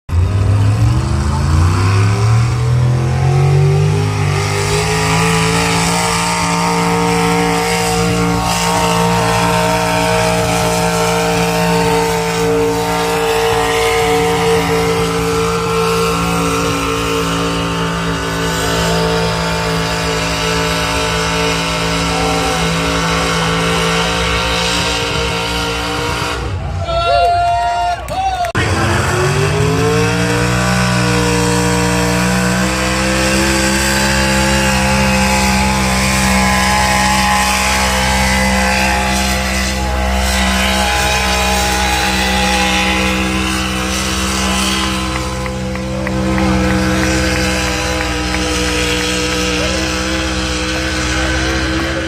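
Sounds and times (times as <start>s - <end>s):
truck engine revving: 0.1s - 26.8s, 28.4s - 52.0s.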